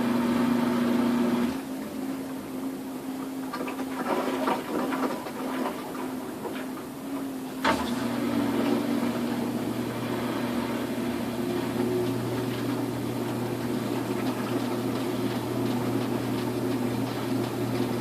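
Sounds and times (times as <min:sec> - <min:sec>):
washing machine spinning: 0:00.0 - 0:18.0.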